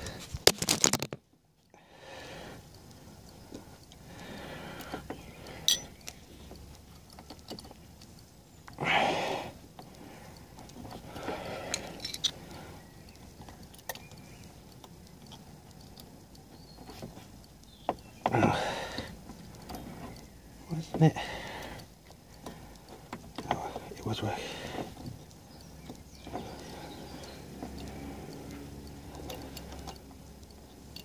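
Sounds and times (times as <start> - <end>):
small parts clicking and clinking: 2.6 - 8.8, 9.5 - 31.0.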